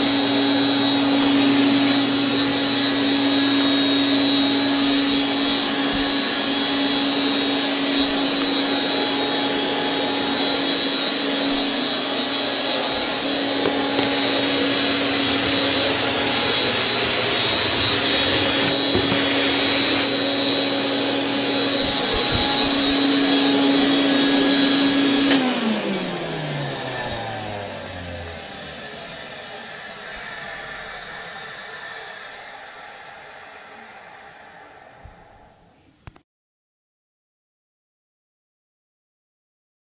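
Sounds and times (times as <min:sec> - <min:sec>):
canister vacuum running: 0:00.0 - 0:35.7.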